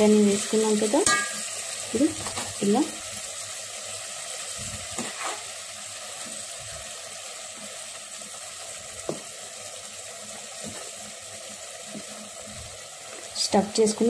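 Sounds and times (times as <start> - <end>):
curry sizzling in a metal pot: 0.0 - 14.0.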